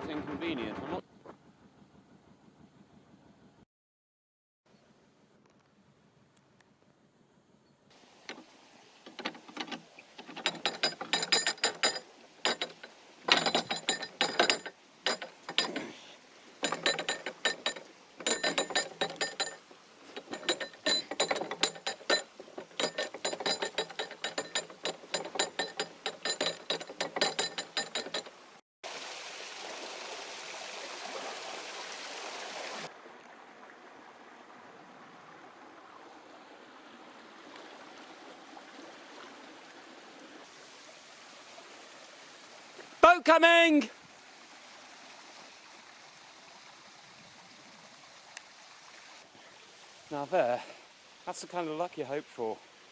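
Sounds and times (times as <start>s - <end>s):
water rushing: 8.0s - 52.9s.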